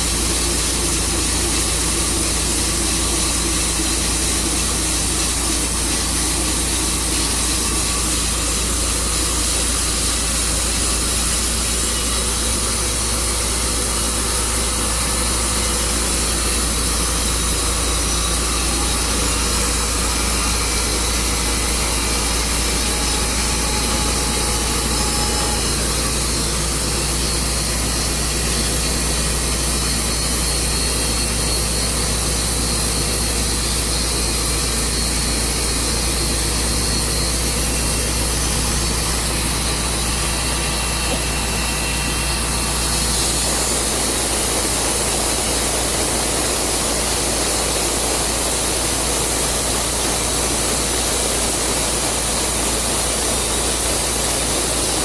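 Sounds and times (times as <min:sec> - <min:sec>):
sawmill engine hum: 0:00.0 - 0:55.0
sawmill hiss: 0:00.0 - 0:55.0.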